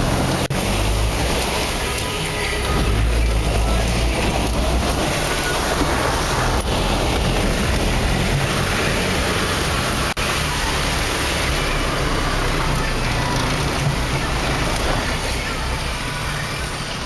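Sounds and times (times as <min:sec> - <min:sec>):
truck engine running: 0:00.0 - 0:17.0
water splashing: 0:00.0 - 0:17.0.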